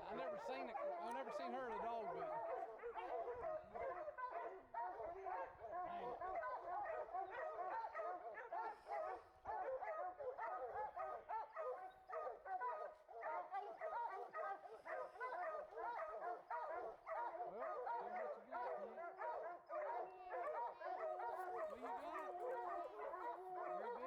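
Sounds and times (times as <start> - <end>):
hounds barking and bawling: 0.0 - 24.0.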